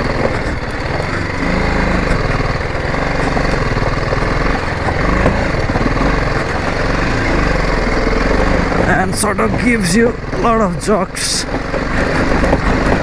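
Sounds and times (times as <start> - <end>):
bike rattling over stone track: 0.0 - 13.0
motorcycle engine running: 0.0 - 13.0.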